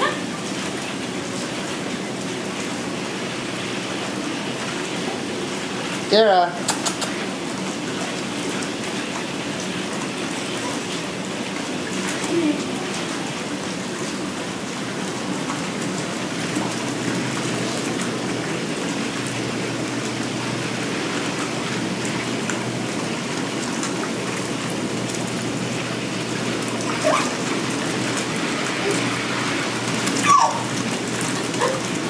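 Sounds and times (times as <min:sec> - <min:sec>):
bathtub jets churning water: 0:00.0 - 0:32.0.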